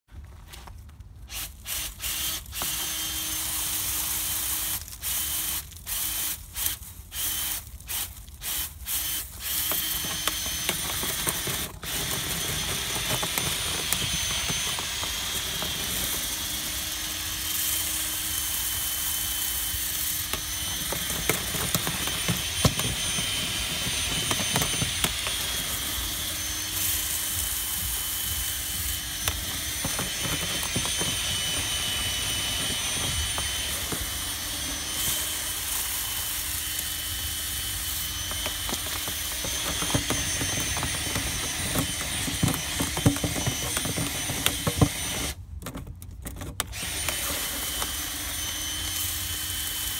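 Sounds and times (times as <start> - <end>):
power drill whine: 1.3 - 45.4, 46.7 - 49.9.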